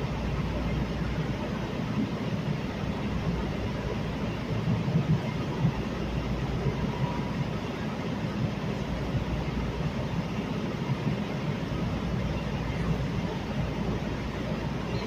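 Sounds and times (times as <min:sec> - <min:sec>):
light-rail car rumbling: 0:00.0 - 0:15.0.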